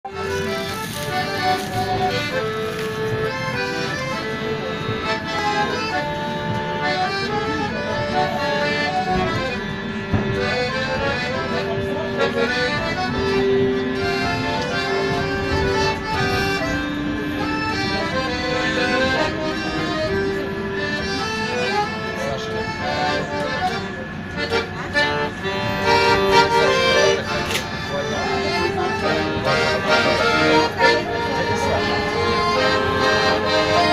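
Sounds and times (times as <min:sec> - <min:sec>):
piano accordion playing: 0:00.0 - 0:33.9.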